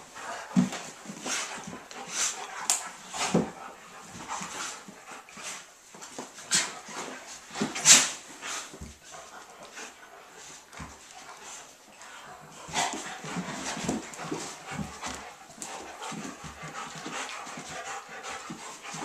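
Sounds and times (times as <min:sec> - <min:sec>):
scuffling on a rug: 0:00.0 - 0:19.0.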